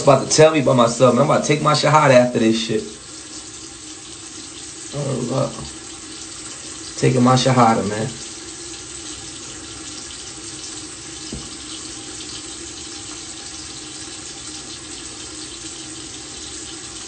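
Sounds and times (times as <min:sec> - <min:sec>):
water running from tap: 0:00.0 - 0:17.0.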